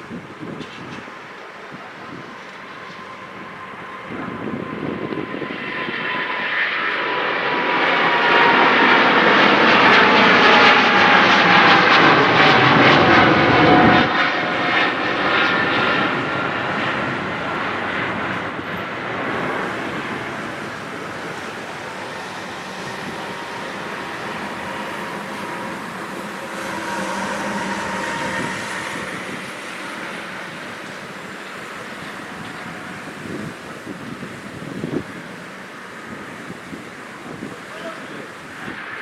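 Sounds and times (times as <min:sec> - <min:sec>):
jet plane passing by: 0:00.0 - 0:39.0.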